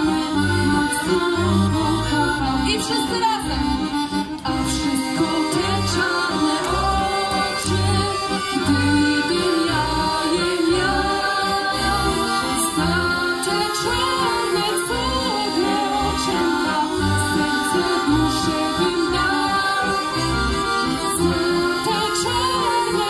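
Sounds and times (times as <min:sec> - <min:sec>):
woman singing: 0:00.0 - 0:20.3, 0:21.0 - 0:23.0
accordions playing folk song: 0:00.0 - 0:23.0.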